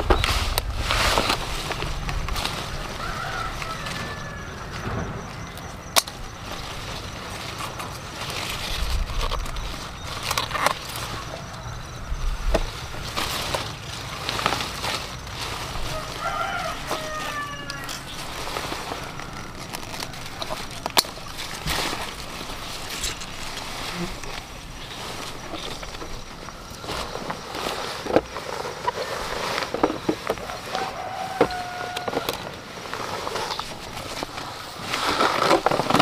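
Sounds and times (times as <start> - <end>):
bird calling: 0.0 - 36.0
leaves rustling: 0.0 - 36.0.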